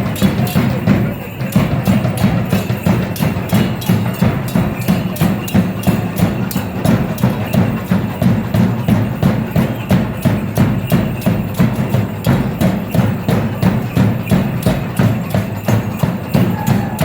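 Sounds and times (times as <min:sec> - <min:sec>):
fast drumming: 0:00.0 - 0:17.0
sharp percussive clacks: 0:00.0 - 0:17.0.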